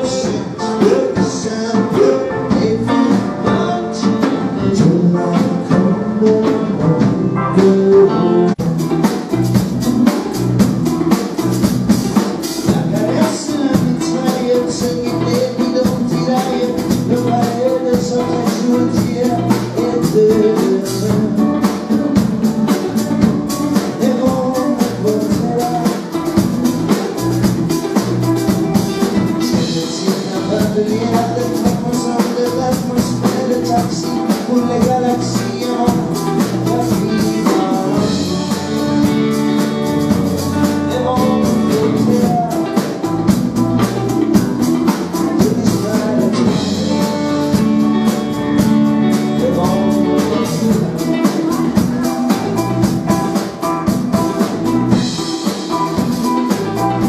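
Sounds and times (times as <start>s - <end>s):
bass guitar: 0.0s - 57.0s
drum kit beat: 0.0s - 57.0s
electric guitars: 0.0s - 57.0s.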